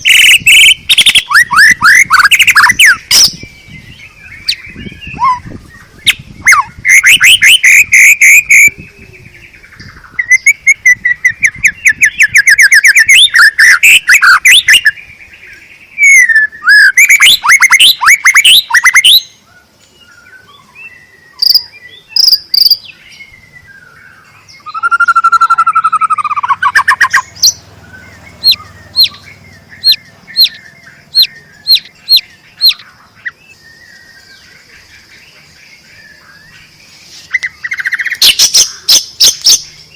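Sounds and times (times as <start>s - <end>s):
songbird trills and chip notes: 0.0s - 39.9s.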